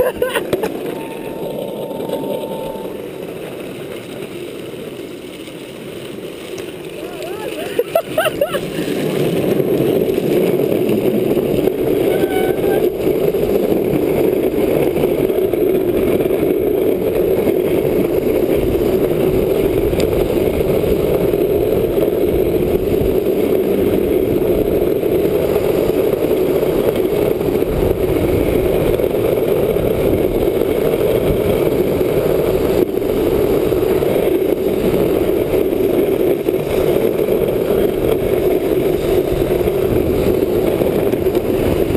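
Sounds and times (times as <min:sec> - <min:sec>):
trike sliding on wet road: 0:00.0 - 0:41.9
wind on microphone: 0:07.2 - 0:41.9.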